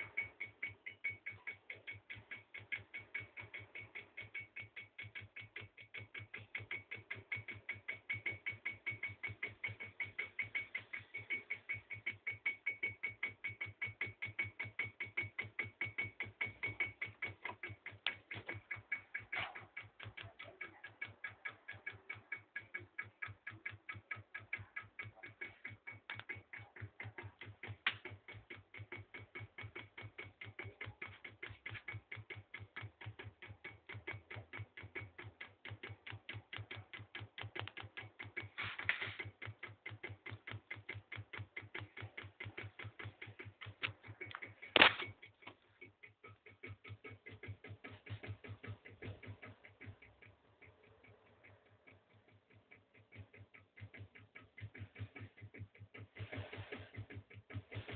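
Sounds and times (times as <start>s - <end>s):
motor rapid clicking: 0.0s - 57.9s.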